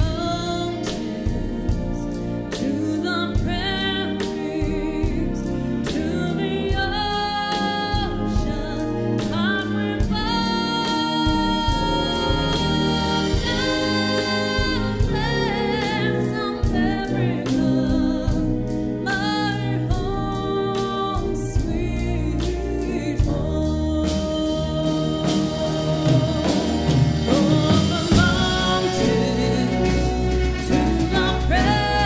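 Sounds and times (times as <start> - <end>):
concert band playing: 0.0 - 32.0
woman singing with vibrato: 0.0 - 32.0.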